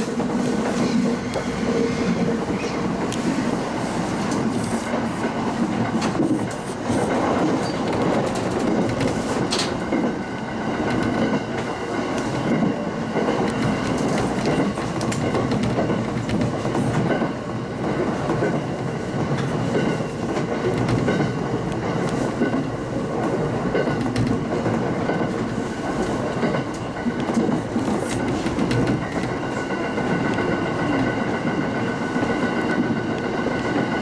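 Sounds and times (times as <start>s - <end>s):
rail-joint clicks: 0.0s - 34.0s
train wheels rumbling on rail: 0.0s - 34.0s.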